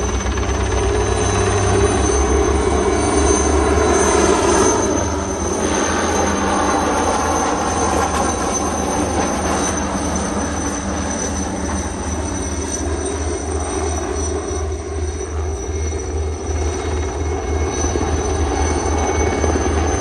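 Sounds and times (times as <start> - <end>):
helicopter flying low past: 0.0 - 20.0.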